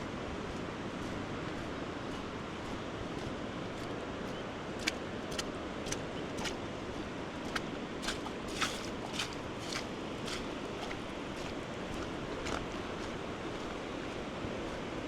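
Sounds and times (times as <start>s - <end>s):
footsteps on wet path: 0.4s - 14.9s.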